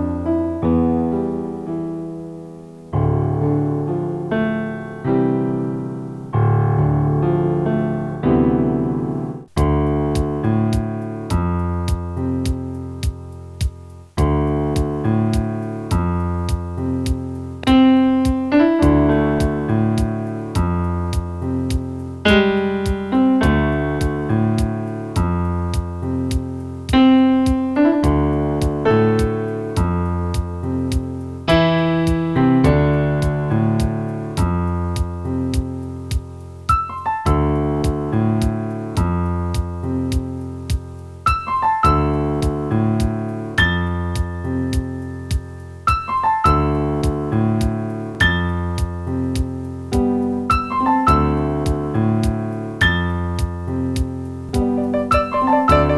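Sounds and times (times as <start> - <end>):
piano chords: 0.0 - 55.9
ticking beat: 9.6 - 55.9.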